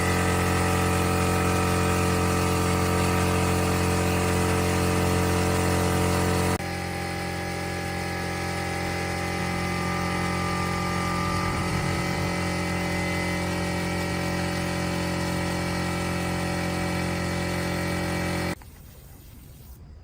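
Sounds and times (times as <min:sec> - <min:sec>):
machine humming: 0:00.0 - 0:19.8.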